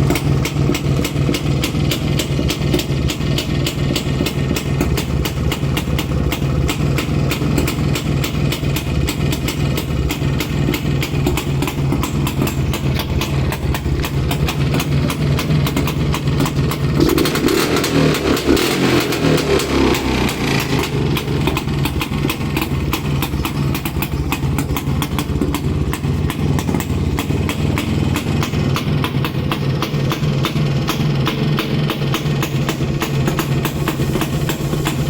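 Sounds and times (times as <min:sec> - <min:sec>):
engine revving: 0:00.0 - 0:35.0
two-stroke engine idling: 0:00.0 - 0:35.0.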